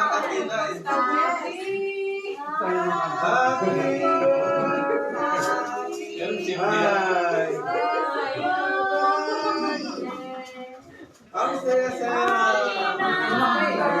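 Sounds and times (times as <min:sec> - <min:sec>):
people singing together: 0:00.0 - 0:14.0.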